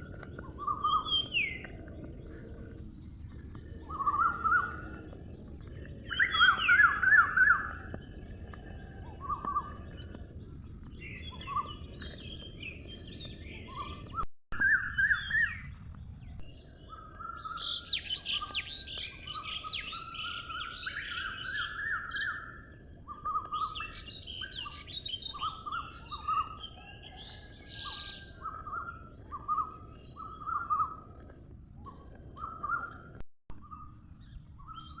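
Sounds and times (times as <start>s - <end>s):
birds chirping: 0.0s - 14.3s, 15.0s - 35.0s.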